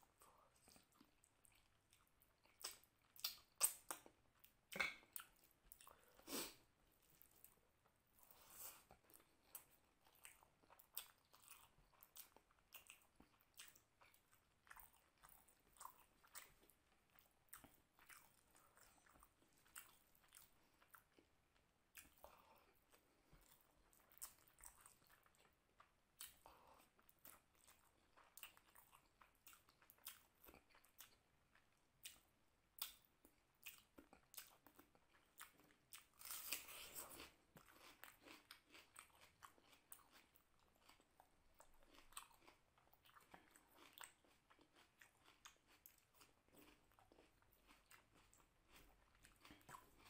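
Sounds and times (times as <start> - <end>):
person chewing food: 0.0 - 50.0.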